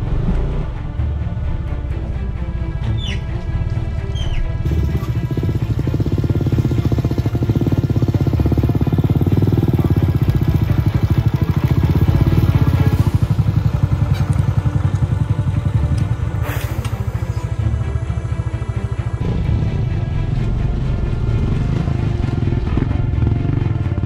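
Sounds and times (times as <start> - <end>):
scooter engine labouring: 4.1 - 24.0.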